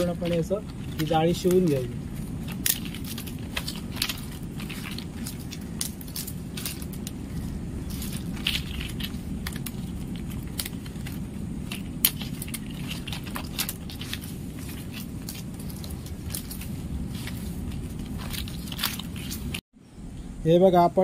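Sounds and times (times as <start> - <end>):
dry palm leaves crackling: 0.0 - 19.7
low rumble: 0.0 - 20.5.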